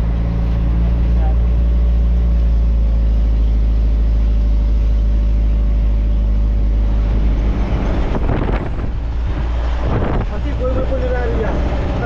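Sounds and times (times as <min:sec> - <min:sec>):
road rumble: 0:00.0 - 0:12.0
truck engine running: 0:00.0 - 0:12.0.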